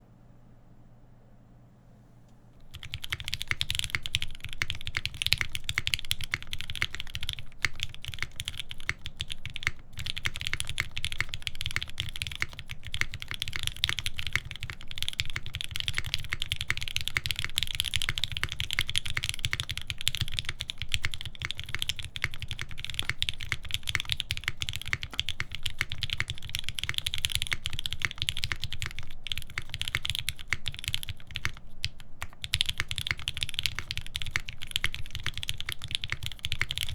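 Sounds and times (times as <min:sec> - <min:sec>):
mechanical keyboard typing: 0:02.6 - 0:36.9.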